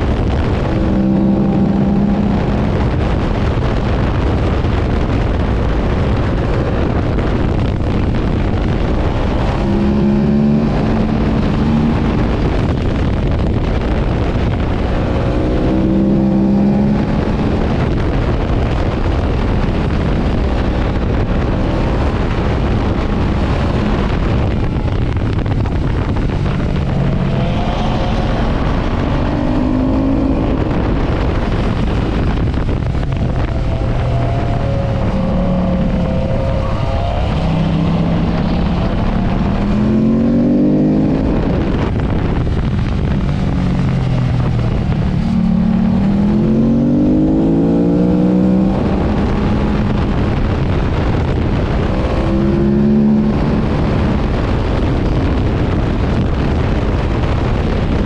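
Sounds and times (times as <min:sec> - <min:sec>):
motorcycle engine revving: 0:00.0 - 0:05.6, 0:06.2 - 0:58.0.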